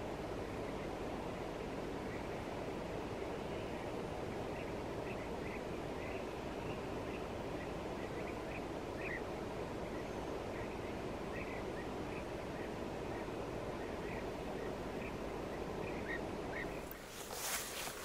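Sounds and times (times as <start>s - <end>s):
low rush of background noise: 0.0s - 18.0s.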